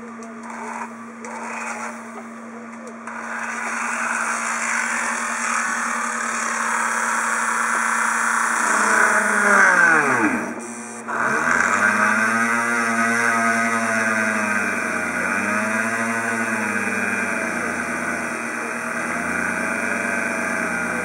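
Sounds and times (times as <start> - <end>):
rotary tool motor whine: 0.0 - 2.4, 3.0 - 21.0.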